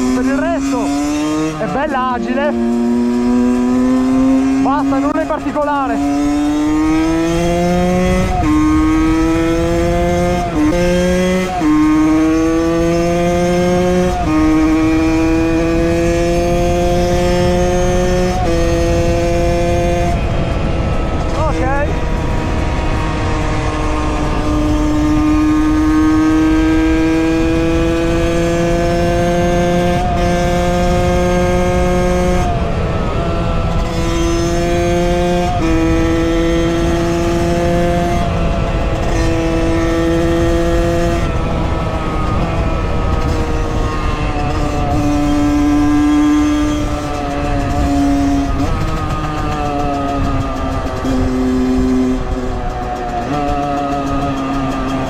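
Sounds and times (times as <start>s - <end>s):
motorcycle engine buzzing: 0.0s - 55.0s.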